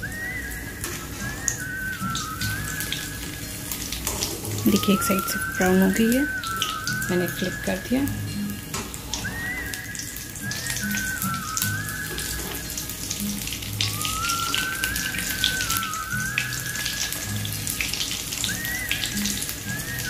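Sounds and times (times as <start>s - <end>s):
background music with whistled melody: 0.0s - 20.0s
oil sizzling and crackling: 0.0s - 20.0s.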